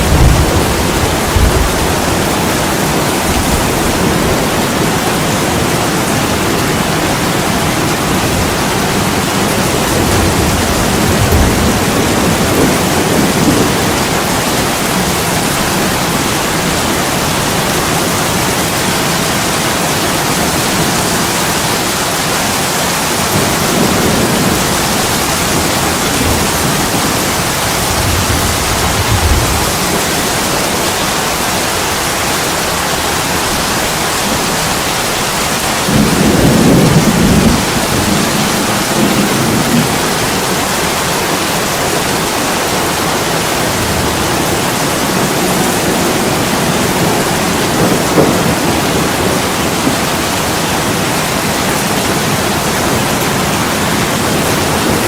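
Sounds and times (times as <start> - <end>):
heavy rain on a window: 0.0 - 55.0
rolling thunder rumbles: 0.0 - 55.0.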